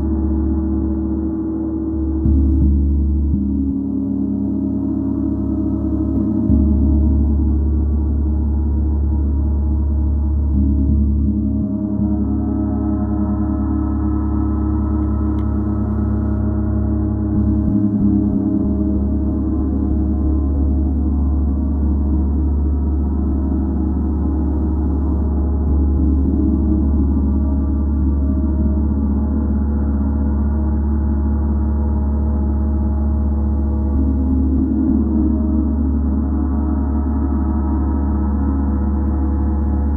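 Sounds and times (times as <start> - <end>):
gong played continuously: 0.0 - 39.9.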